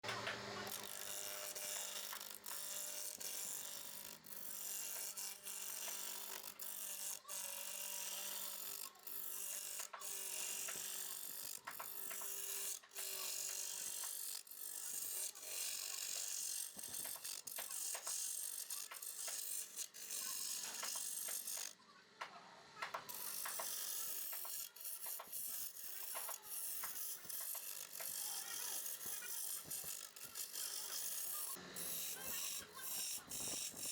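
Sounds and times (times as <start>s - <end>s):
chisel scraping spinning wood: 0.6s - 21.8s, 22.8s - 33.9s.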